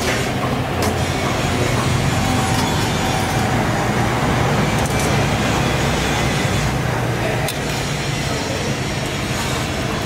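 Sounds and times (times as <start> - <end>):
gas burner rumble: 0.0 - 10.0
street traffic: 0.0 - 10.0.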